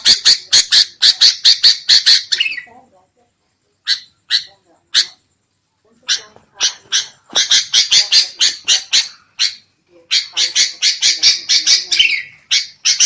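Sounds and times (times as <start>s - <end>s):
bulbuls harsh chattering calls: 0.0s - 2.7s, 3.8s - 5.2s, 6.0s - 13.0s.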